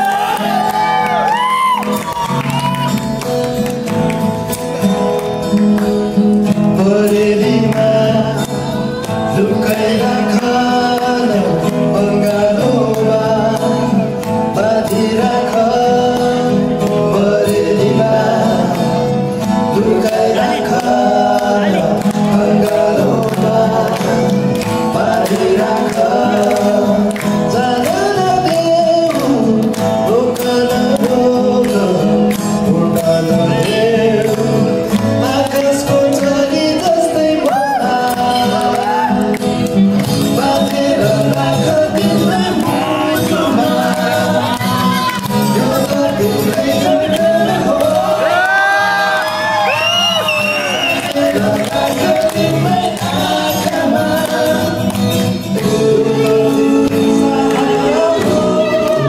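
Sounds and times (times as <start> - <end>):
song over loudspeakers: 0.0 - 59.0.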